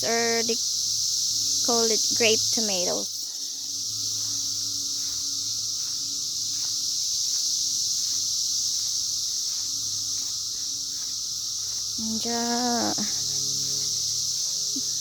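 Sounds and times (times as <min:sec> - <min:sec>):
cicadas droning buzz: 0:00.0 - 0:15.0.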